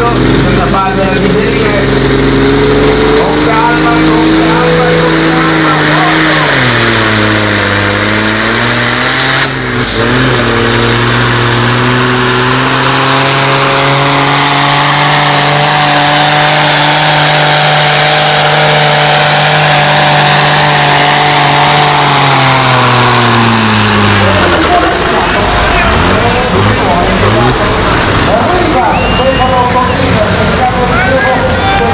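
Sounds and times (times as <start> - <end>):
tractor engine at high revs: 0.0 - 31.9.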